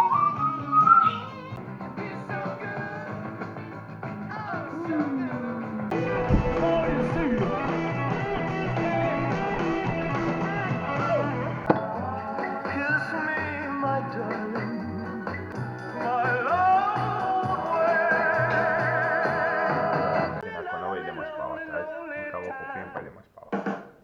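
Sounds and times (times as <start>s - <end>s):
rock song with guitar: 0.0s - 20.4s.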